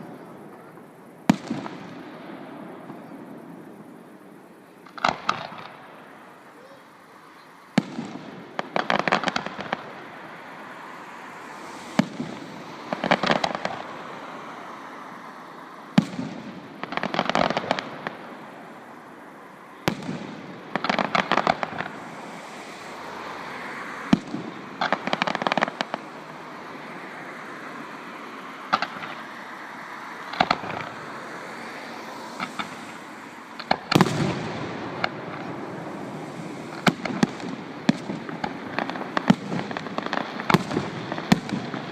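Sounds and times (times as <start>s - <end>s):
firework bangs and crackling: 0.0s - 6.4s, 7.7s - 14.9s, 15.8s - 19.0s, 19.8s - 27.0s, 27.8s - 41.9s.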